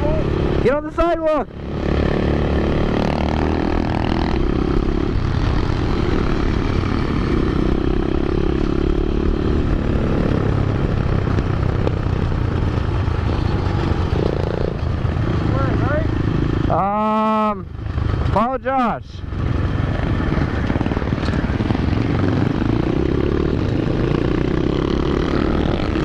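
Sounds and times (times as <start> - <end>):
pit bike engine revving: 0.0 - 18.4, 19.3 - 26.0
other pit bikes running: 0.0 - 26.0.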